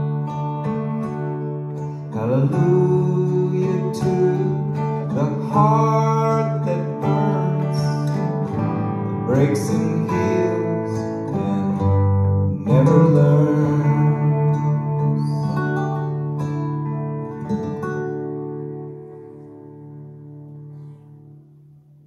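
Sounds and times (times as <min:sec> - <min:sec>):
acoustic guitar: 0:00.0 - 0:22.0
electric guitar: 0:00.0 - 0:22.0.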